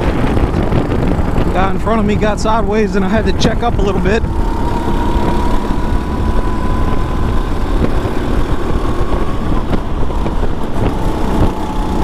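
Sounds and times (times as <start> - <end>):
go-kart engine running: 0.0 - 12.0
heavy low rumble: 0.0 - 12.0.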